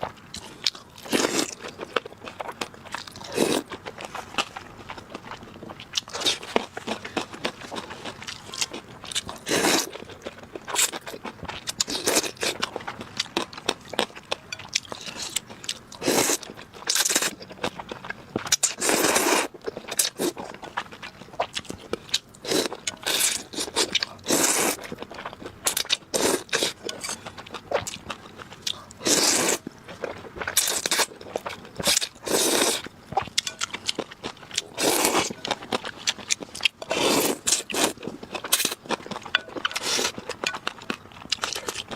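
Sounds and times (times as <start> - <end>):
crunching and chewing: 0.0 - 41.9.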